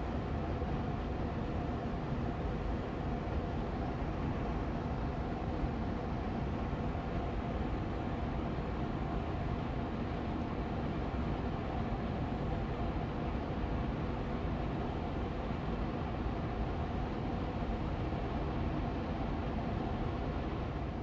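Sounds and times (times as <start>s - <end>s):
air purifier fan humming: 0.0s - 21.0s.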